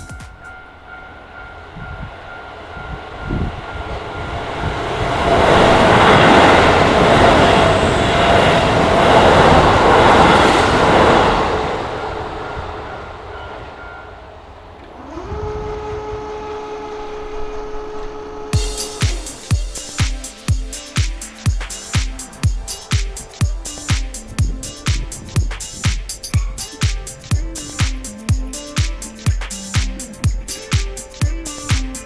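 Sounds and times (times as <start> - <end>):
crossing warning tone: 0.0 - 32.0
train rumbling past: 0.0 - 32.0.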